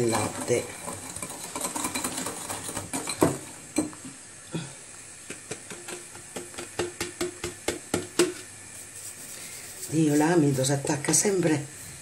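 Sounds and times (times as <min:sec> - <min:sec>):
whisk clicking and scraping bowl: 0:00.0 - 0:03.5, 0:05.7 - 0:12.0.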